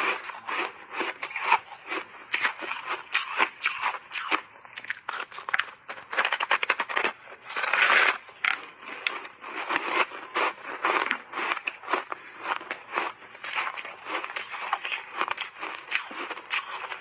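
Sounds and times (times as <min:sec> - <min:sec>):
crunching frozen ice: 0:00.0 - 0:17.0.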